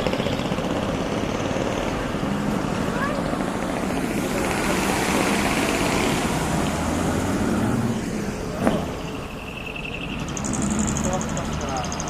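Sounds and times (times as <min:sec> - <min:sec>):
truck engines running: 0:00.0 - 0:12.0.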